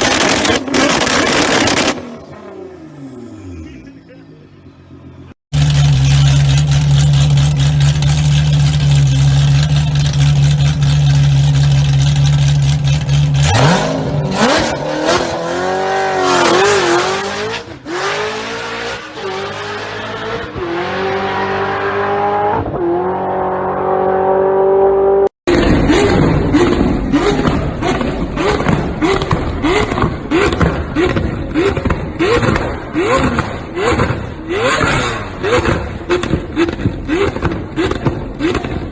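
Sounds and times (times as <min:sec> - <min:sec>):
car engine revving and accelerating: 0:00.0 - 0:03.7, 0:05.6 - 0:38.9.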